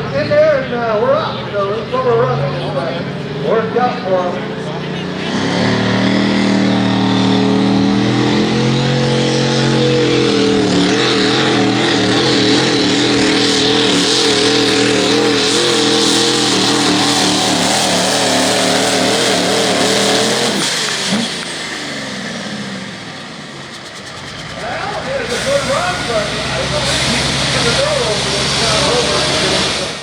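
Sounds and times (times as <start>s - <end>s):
diesel truck engine at full throttle: 0.0s - 30.0s.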